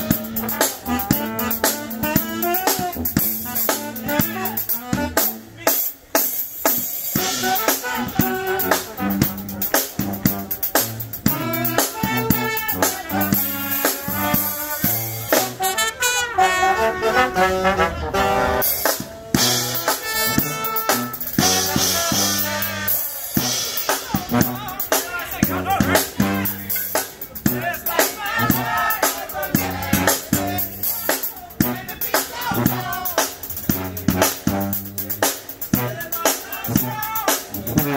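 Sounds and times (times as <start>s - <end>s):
sousaphone bass line: 0.0s - 15.7s, 18.2s - 37.9s
drum kit with snare and cymbals: 0.0s - 15.8s, 18.5s - 37.9s
saxophones trumpet and trombone: 0.0s - 37.9s.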